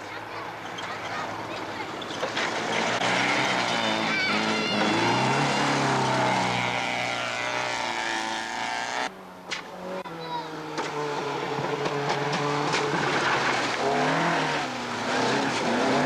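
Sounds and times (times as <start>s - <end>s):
rally car engine revving: 1.8s - 9.1s, 9.8s - 16.0s.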